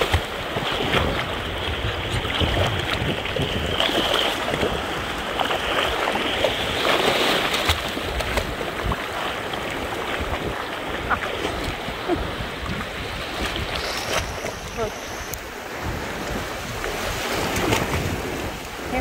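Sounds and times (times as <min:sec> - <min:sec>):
dog paddling through water: 0:00.0 - 0:19.0
ocean surf splashing: 0:00.0 - 0:19.0
wind rumbling on microphone: 0:00.0 - 0:19.0.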